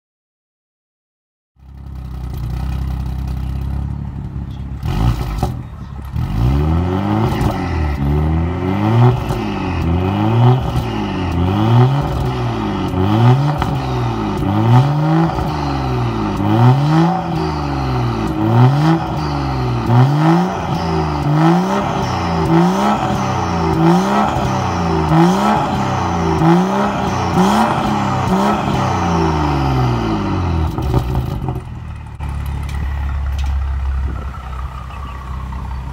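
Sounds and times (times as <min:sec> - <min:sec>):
car engine idling: 0:01.6 - 0:35.9
car engine revving: 0:01.6 - 0:35.9.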